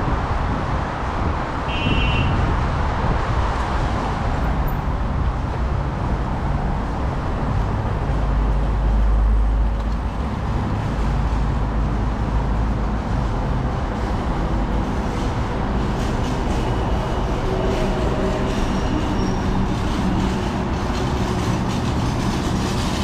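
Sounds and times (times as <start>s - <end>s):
city hum: 0.0s - 23.0s
rumble of passing vehicles: 0.0s - 23.0s.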